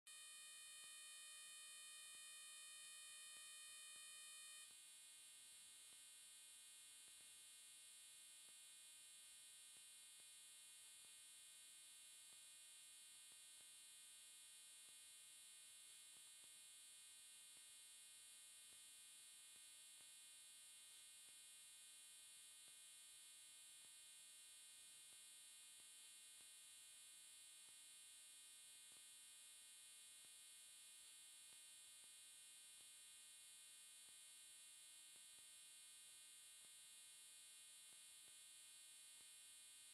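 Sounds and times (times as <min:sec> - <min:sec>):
faint hum and hiss: 0:00.1 - 0:39.9.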